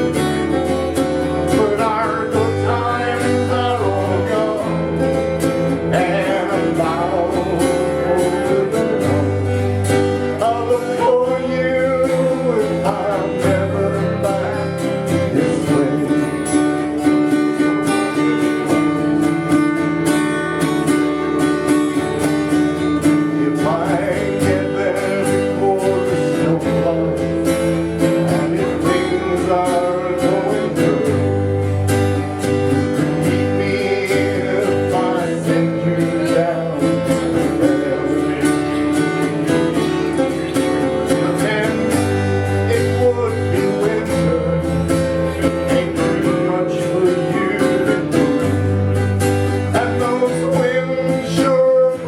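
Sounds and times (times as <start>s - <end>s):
strummed acoustic guitars: 0.0s - 52.0s.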